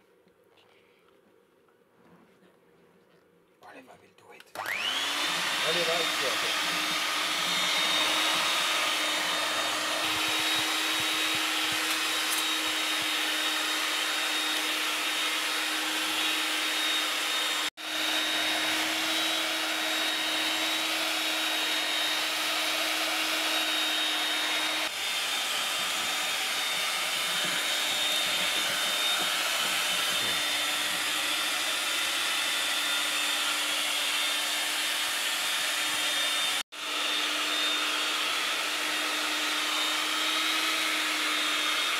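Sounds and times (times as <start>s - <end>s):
electric hand mixer whirring: 4.5s - 41.9s.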